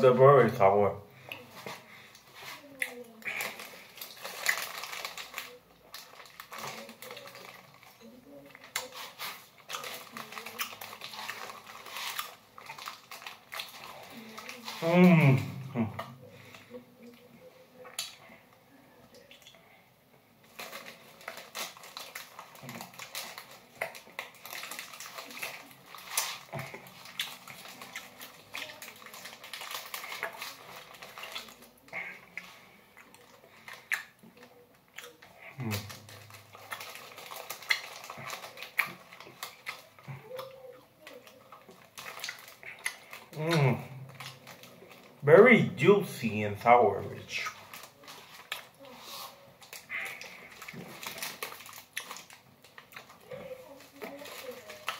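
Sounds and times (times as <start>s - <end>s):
plastic candy bag crinkling: 0.0s - 18.3s, 20.4s - 54.9s
chewing and mouth sounds: 1.2s - 19.7s, 20.4s - 45.2s, 47.2s - 54.9s.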